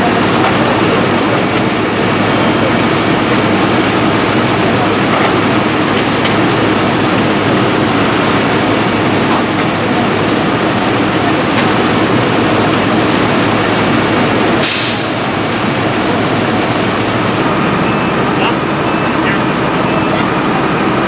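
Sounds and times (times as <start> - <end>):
diesel engines and pumps running: 0.0 - 21.0.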